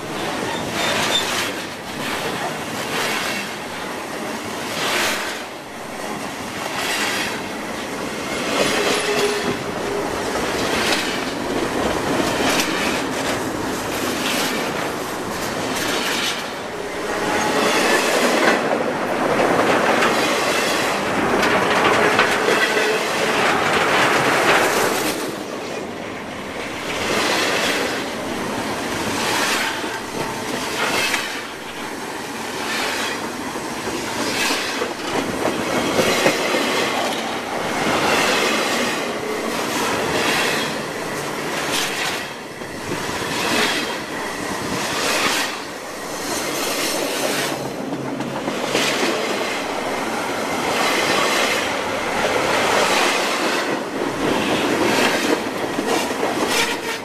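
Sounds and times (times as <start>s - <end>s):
train wheels rumbling on rails: 0.0s - 57.0s
wheels clacking on rails: 0.0s - 57.0s.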